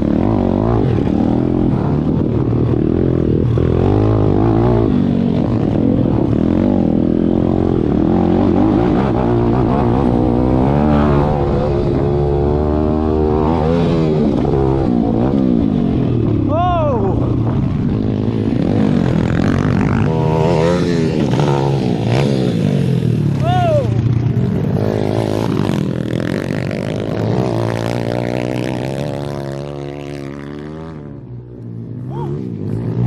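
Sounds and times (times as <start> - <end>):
motorbike engine revving: 0.0 - 31.3.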